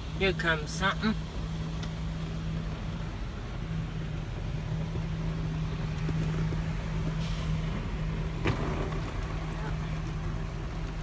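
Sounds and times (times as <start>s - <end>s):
car wash machine hum: 0.0s - 11.0s.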